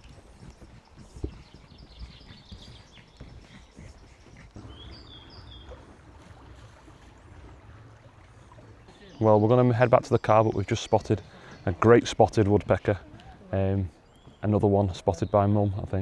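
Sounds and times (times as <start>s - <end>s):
footsteps on woodland path: 0.0s - 7.7s, 8.4s - 14.5s
small birds chirping: 0.0s - 16.0s.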